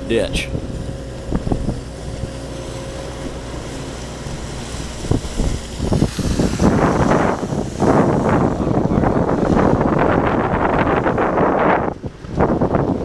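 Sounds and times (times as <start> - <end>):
floodwater rushing from culvert: 0.0 - 13.0
wind buffeting microphone: 0.0 - 13.0.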